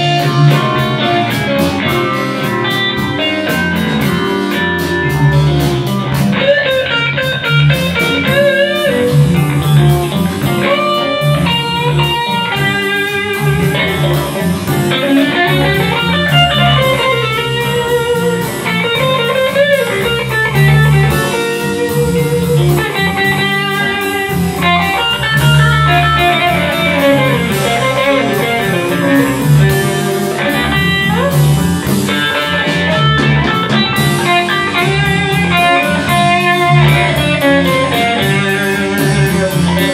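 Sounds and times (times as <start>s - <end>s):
bass guitar: 0.0s - 39.9s
drums: 0.0s - 39.9s
electric guitar lead: 0.0s - 39.9s.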